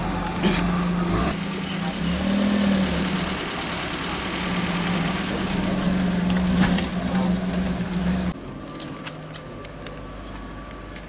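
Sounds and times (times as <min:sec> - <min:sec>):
car engine humming at low revs: 0:00.0 - 0:11.0.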